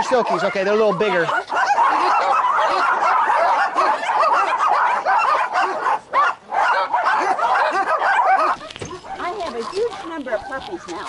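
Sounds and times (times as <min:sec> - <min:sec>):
small dogs barking: 0:00.0 - 0:11.0.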